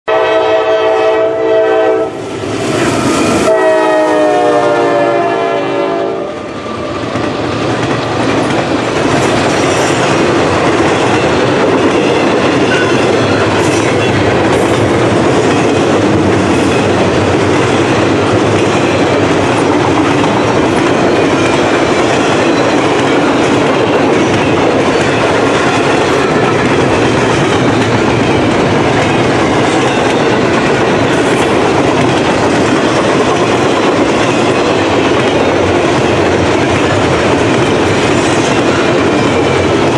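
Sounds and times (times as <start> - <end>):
freight train rumbling past: 0.1 - 39.9.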